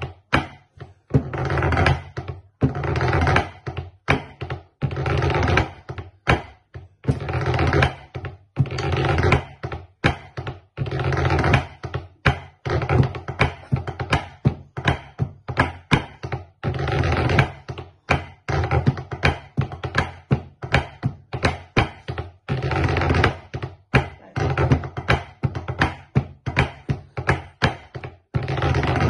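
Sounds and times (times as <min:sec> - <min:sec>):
drumsticks tapping on practice board: 0:00.0 - 0:29.0.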